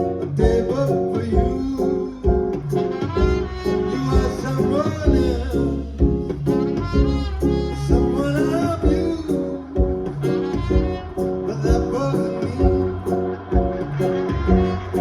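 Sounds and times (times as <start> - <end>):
kick drum beat: 0.0 - 7.3, 7.9 - 15.0
bending melodic lead line: 0.0 - 15.0
live band playing: 0.0 - 15.0
repeated chords: 0.0 - 15.0.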